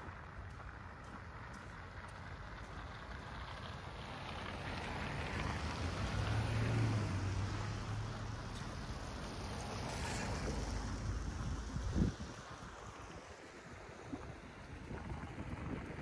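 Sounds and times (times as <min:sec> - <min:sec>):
tyre and traffic noise: 0:00.0 - 0:16.0
vehicle passing close by: 0:02.2 - 0:15.9.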